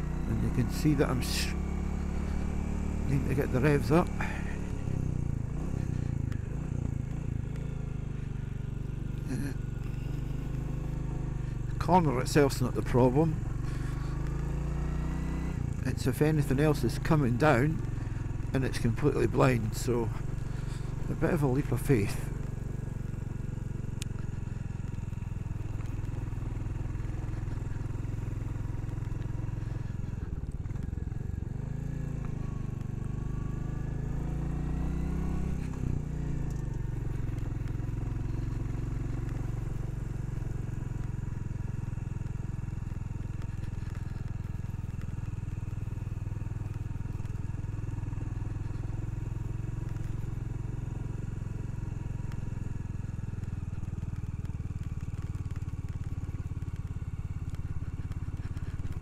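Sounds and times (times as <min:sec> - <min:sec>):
motorcycle engine pulling uphill: 0:00.0 - 0:59.0.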